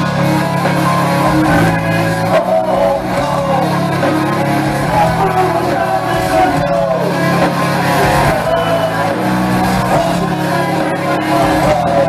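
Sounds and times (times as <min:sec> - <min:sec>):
live heavy metal band: 0:00.0 - 0:12.0
person singing: 0:00.0 - 0:12.0.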